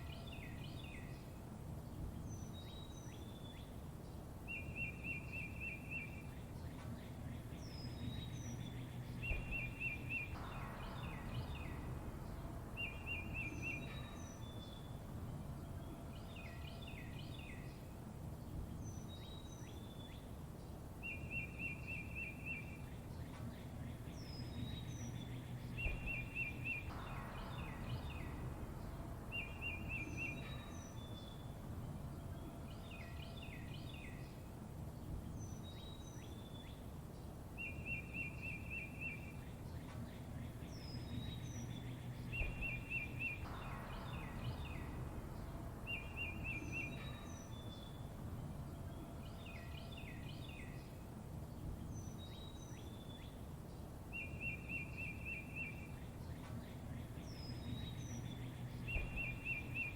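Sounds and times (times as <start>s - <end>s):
low background rumble: 0.0s - 59.9s
songbirds chirping and singing: 0.0s - 59.9s.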